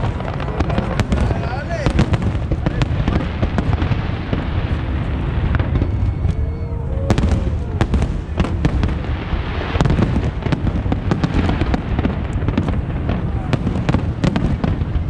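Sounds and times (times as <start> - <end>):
firework bangs and crackles: 0.0 - 15.0.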